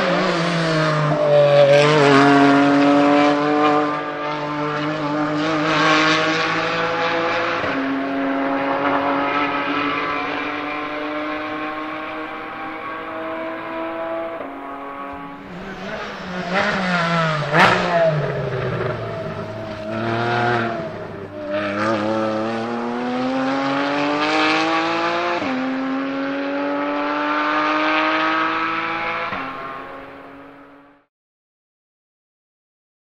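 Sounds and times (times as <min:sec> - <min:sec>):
sports car engine accelerating: 0:00.0 - 0:31.1.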